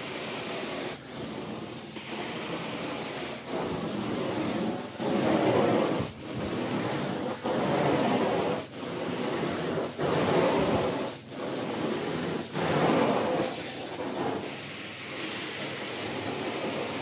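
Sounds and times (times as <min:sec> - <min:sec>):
carpet cleaning vacuum rushing: 0:00.0 - 0:17.0.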